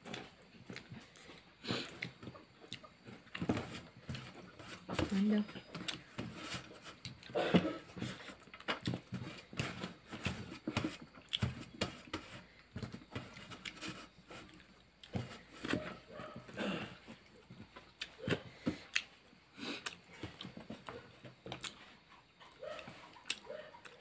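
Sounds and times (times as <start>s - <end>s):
chewing: 0.0s - 4.5s, 5.7s - 24.0s.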